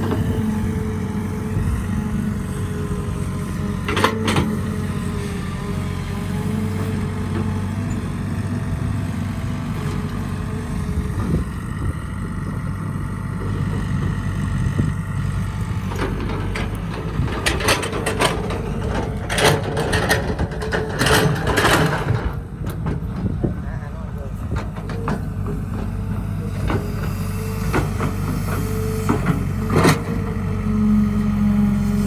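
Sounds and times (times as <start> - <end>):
heavy machine engine running: 0.0 - 32.0.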